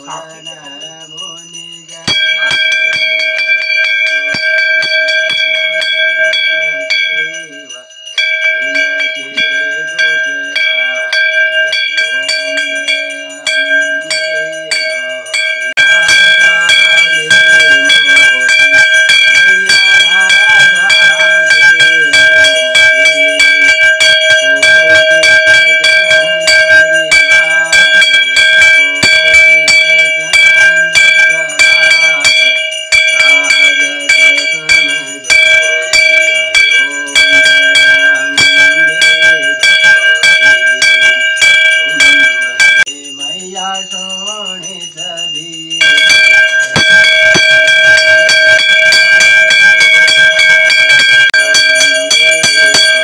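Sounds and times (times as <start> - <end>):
hand bell ringing rapidly: 0.0 - 53.0.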